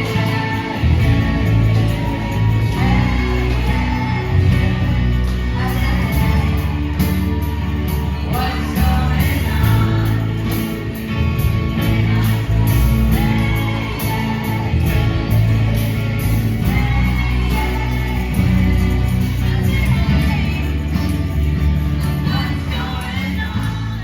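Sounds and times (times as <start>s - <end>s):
person singing: 0.0s - 21.5s
band playing: 0.0s - 24.0s
bass line: 0.0s - 24.0s.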